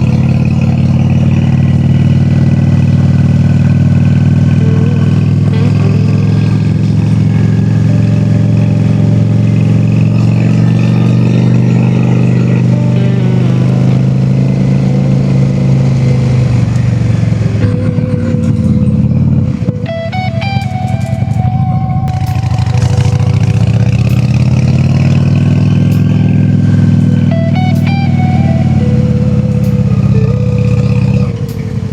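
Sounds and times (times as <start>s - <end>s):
motorcycle engine running: 0.0s - 31.9s
music: 4.4s - 31.9s.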